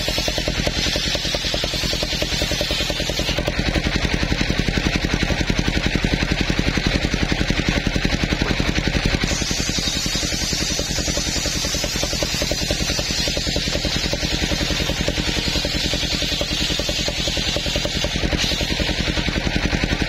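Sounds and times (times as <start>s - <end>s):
engine beating steadily: 0.0s - 20.0s
saw cutting hiss: 0.0s - 20.0s.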